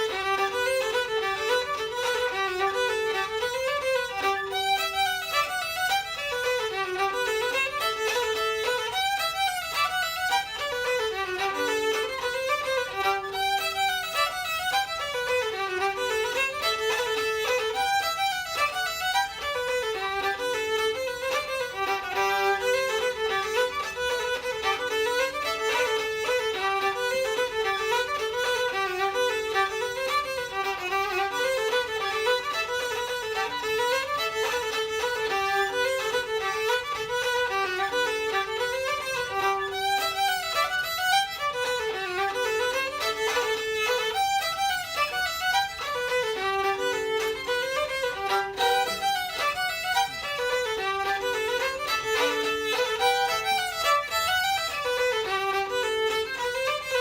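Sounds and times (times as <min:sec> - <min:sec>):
fiddle and whistle playing a reel: 0:00.0 - 0:57.0.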